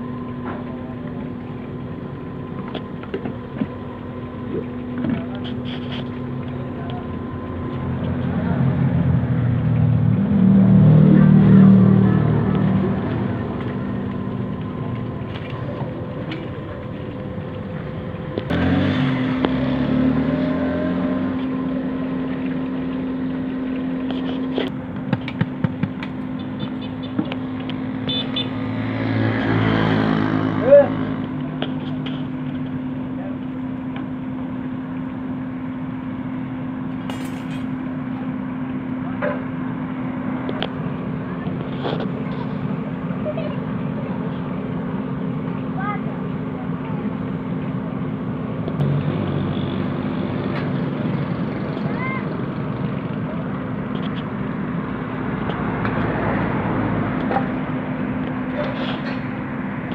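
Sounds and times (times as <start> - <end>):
steady motor hum: 0.0 - 59.9.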